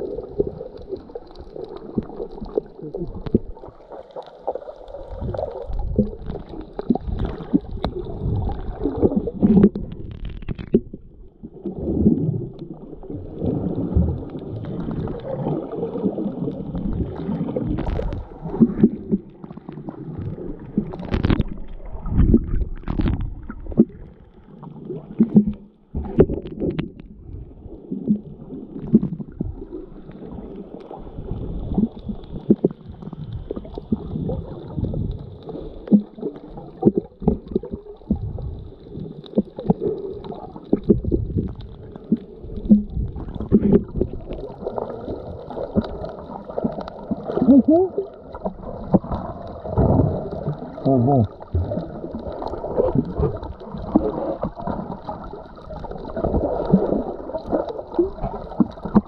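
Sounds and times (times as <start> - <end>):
underwater sloshing and gurgling: 0.0 - 59.0.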